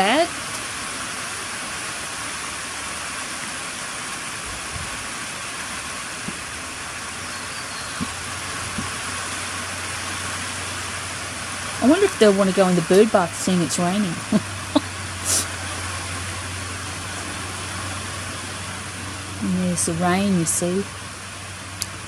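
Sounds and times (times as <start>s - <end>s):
low steady hum: 0.0s - 22.0s
steady rain falling: 0.0s - 22.0s.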